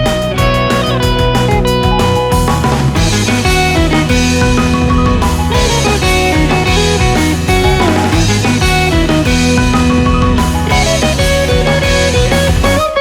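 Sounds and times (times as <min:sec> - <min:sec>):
guitar rock music: 0:00.0 - 0:13.0.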